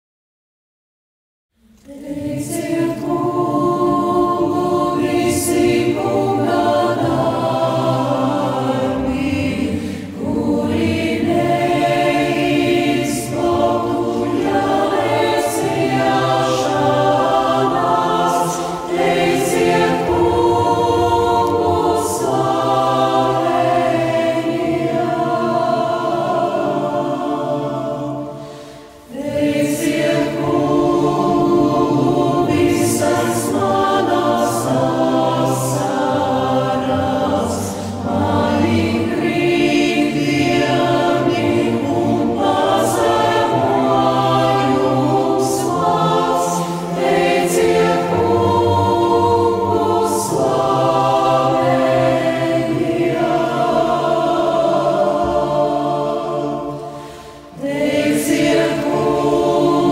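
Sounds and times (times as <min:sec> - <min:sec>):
mixed choir singing a hymn: 0:01.6 - 0:59.9.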